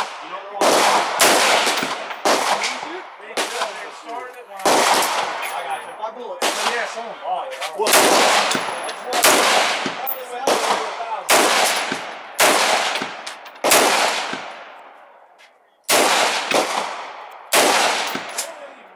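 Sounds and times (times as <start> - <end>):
rifle shots with echo: 0.0 - 7.2, 7.8 - 15.2, 15.9 - 18.9.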